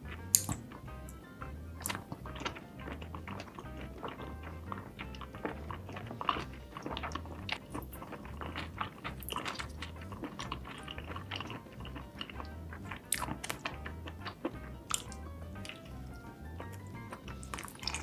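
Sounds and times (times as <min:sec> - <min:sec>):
background music with low pulse: 0:00.0 - 0:18.0
mouth clicks: 0:00.0 - 0:18.0
person chewing with wet smacks: 0:00.0 - 0:18.0.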